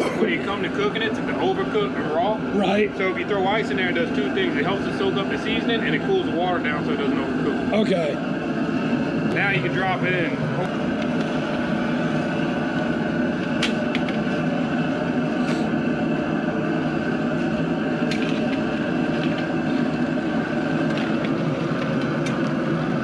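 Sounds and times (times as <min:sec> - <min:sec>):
propane burner rushing: 0:00.0 - 0:23.0
water rolling boil: 0:00.0 - 0:23.0.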